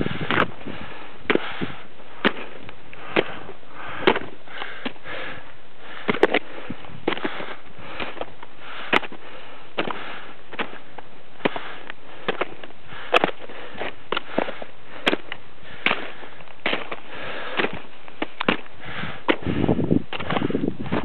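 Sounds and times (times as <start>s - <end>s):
person breathing: 0.0s - 18.0s, 18.6s - 21.0s
footsteps on snow and rock: 0.0s - 21.0s.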